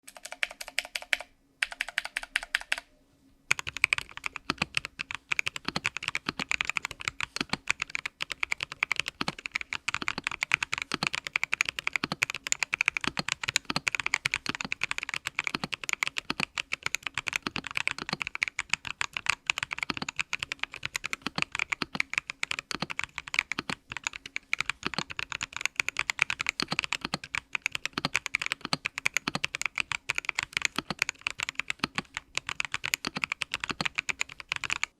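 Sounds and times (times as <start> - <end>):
mechanical keyboard typing: 0.0 - 2.9, 3.5 - 34.9.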